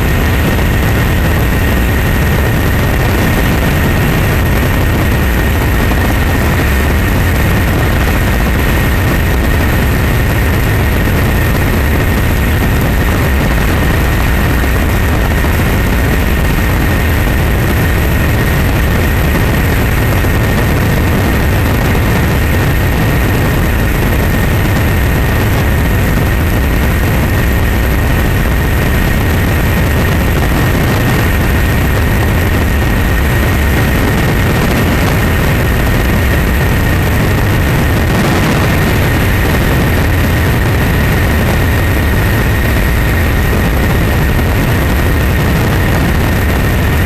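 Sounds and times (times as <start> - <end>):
engine drone with whine: 0.0 - 47.0.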